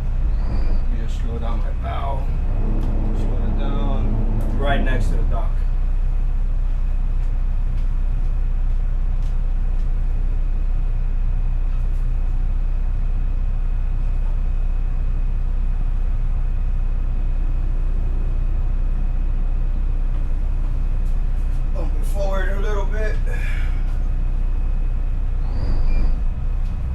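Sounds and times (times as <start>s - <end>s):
boat diesel engines humming: 0.0s - 26.9s.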